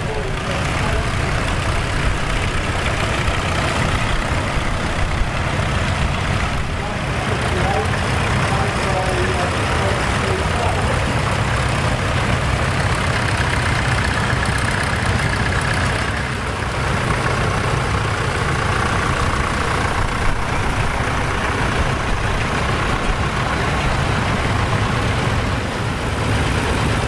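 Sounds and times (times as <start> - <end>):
tractor engines running: 0.0 - 27.0.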